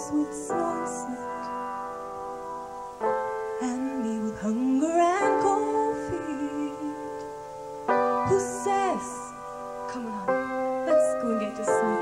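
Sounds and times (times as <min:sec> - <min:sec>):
sustained keyboard chords: 0:00.0 - 0:12.0.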